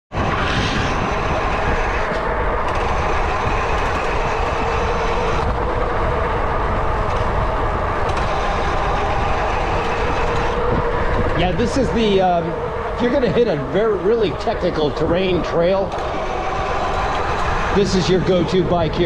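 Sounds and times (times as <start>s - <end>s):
mountain bike rolling rumble: 0.1s - 19.0s
wind on microphone: 0.1s - 19.0s.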